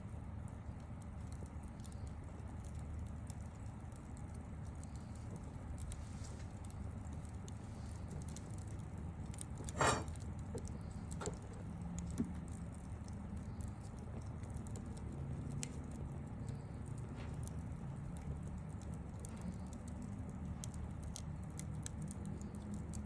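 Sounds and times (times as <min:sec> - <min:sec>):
campfire crackling and popping: 0:00.0 - 0:23.0
low steady rumble: 0:00.0 - 0:23.0.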